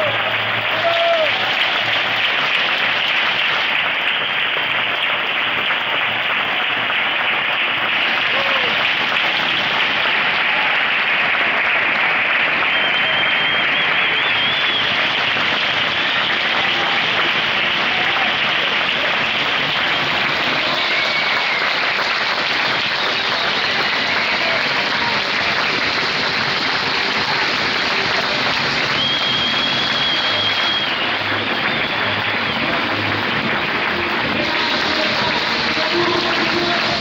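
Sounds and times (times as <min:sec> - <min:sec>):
crowd applauding: 0:00.0 - 0:37.0
hand claps close by: 0:00.0 - 0:37.0.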